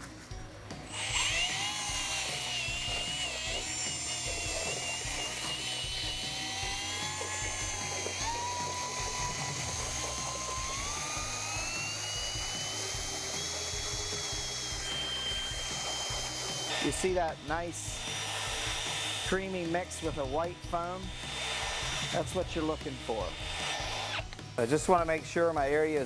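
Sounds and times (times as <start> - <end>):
drill mixer stirring in bucket: 0.9 - 26.0.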